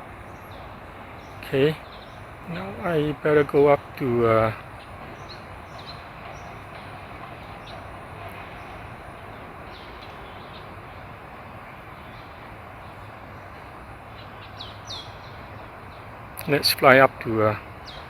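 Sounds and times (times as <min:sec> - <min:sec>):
birds chirping: 0:00.0 - 0:18.0
steady outdoor background hiss: 0:00.0 - 0:18.0.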